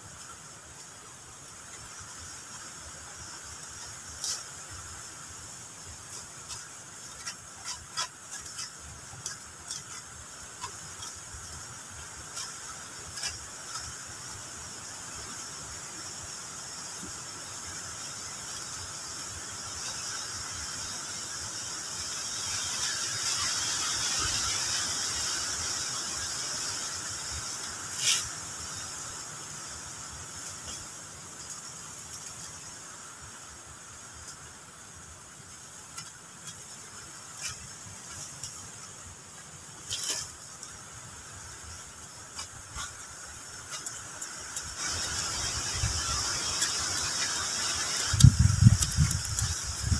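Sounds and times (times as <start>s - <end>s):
forest insects chorus: 0.0s - 49.9s.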